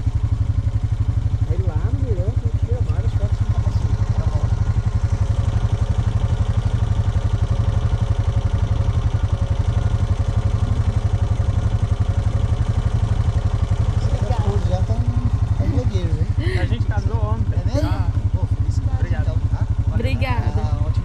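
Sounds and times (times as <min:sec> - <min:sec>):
quad bike engine idling: 0:00.0 - 0:21.0.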